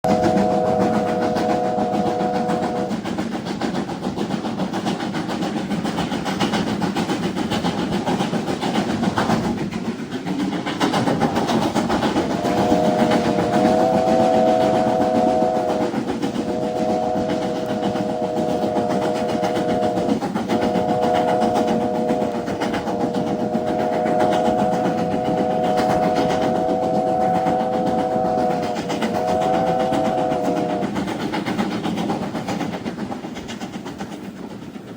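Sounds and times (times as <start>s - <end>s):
steam train running: 0.0s - 34.9s.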